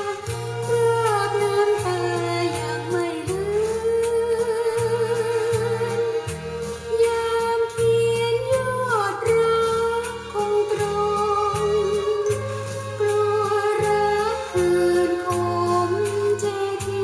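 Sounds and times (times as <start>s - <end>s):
pop song from vinyl record: 0.0s - 17.0s.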